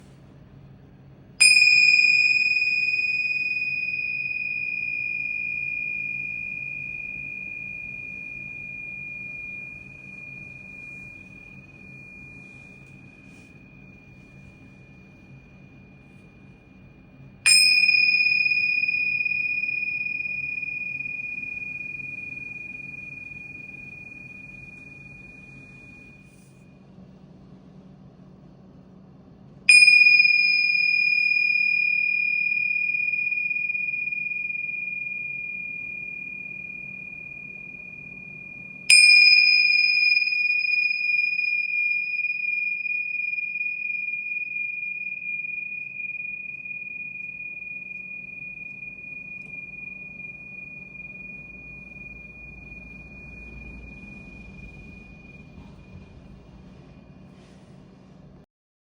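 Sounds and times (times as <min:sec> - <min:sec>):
small cymbals ringing: 0:01.4 - 0:26.6, 0:29.7 - 0:57.6.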